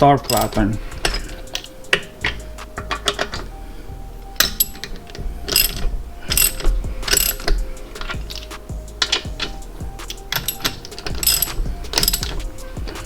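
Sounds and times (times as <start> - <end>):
hand ratchet clicking: 0.0 - 3.6, 4.4 - 13.0.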